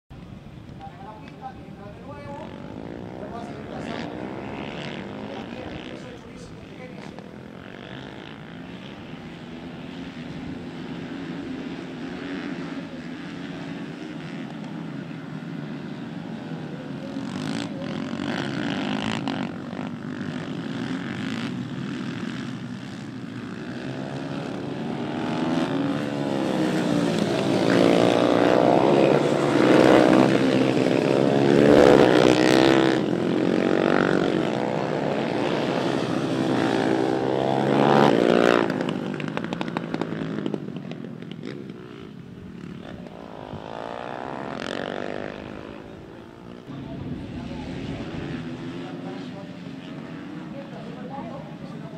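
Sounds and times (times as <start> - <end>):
racing motorcycle engines revving: 0.2 - 51.9.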